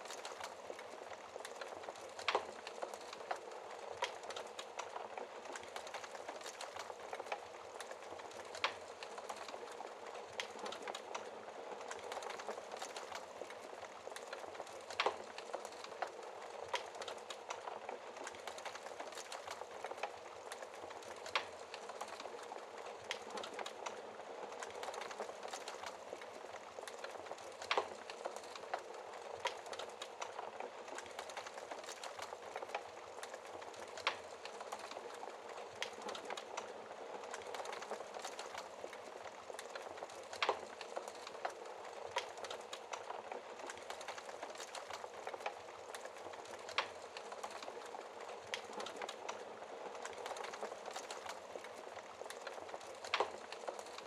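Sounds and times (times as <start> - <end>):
burning logs crackling: 0.0 - 54.0.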